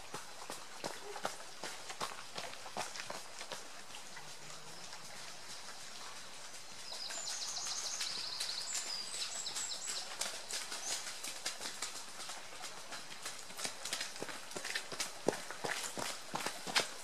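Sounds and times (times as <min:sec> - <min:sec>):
running footsteps: 0:00.0 - 0:03.9, 0:04.8 - 0:17.0.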